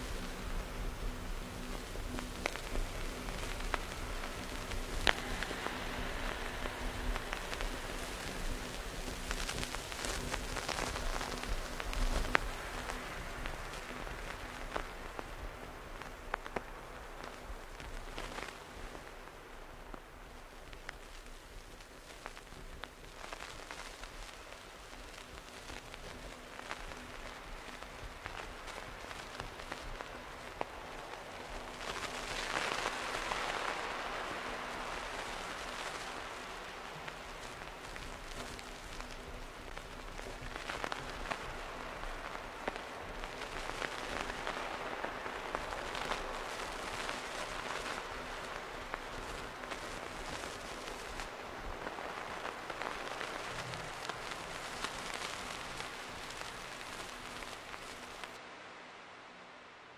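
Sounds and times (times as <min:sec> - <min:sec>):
rain-like hiss with clicks and crackles: 0:00.0 - 0:59.9.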